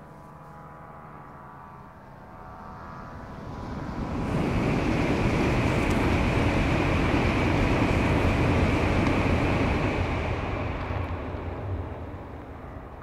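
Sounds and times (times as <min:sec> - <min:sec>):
train passing at high speed: 0:00.0 - 0:13.0.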